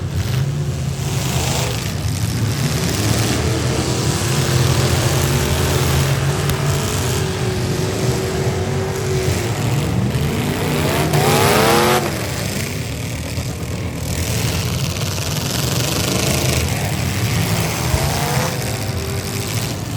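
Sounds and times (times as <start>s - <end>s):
car engine revving hard: 0.0s - 19.9s
car engines running: 0.0s - 19.9s.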